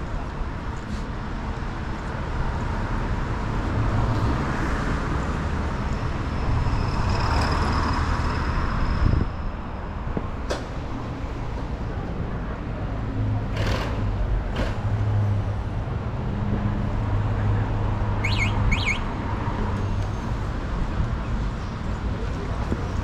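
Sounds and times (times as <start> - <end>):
low traffic hum: 0.0 - 23.0.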